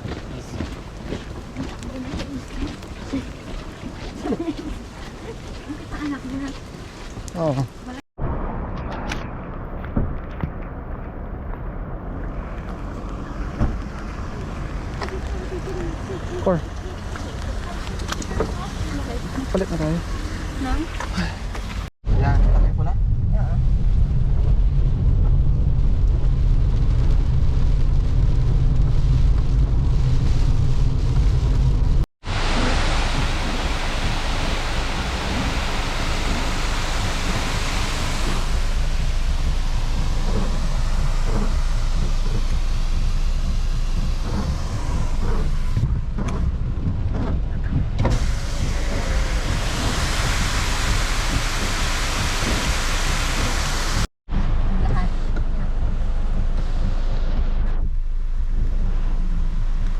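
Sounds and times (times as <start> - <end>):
road and wind noise hiss: 0.0 - 8.0, 9.6 - 59.9
car engine and road rumble: 0.0 - 59.9.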